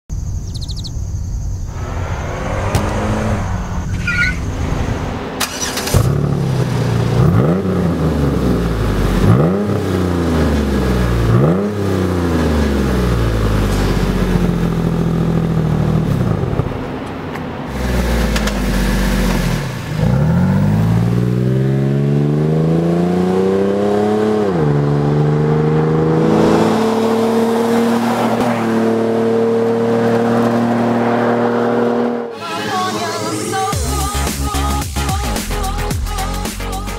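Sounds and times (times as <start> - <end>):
car exhaust accelerating: 1.7 - 32.3
car engine revving: 1.7 - 35.9.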